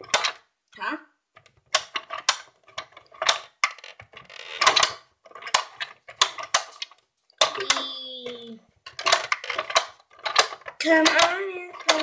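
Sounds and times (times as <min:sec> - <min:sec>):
plastic rattling clatter: 0:00.0 - 0:00.4, 0:01.4 - 0:07.9, 0:08.8 - 0:12.0
plastic toy clicks and taps: 0:01.4 - 0:12.0.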